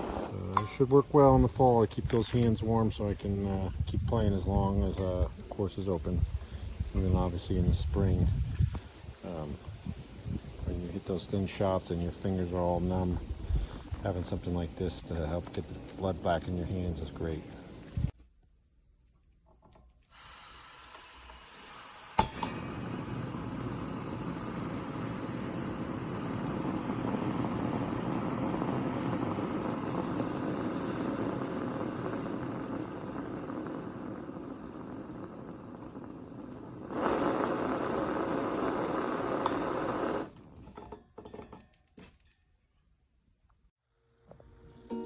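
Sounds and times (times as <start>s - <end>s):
gas heater burner hissing: 0.0s - 18.2s, 20.1s - 40.4s.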